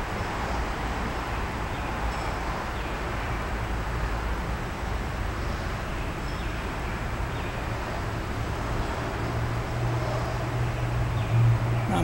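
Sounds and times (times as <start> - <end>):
low outdoor rush: 0.0 - 12.0.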